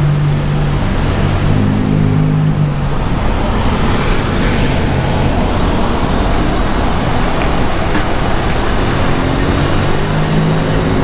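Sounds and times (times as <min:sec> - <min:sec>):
vacuum suction unit rushing: 0:01.5 - 0:11.0.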